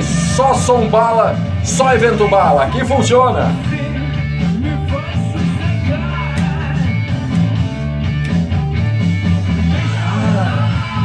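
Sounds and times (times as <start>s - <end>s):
low bass line: 0.0s - 11.0s
rock guitar playing: 0.0s - 11.0s.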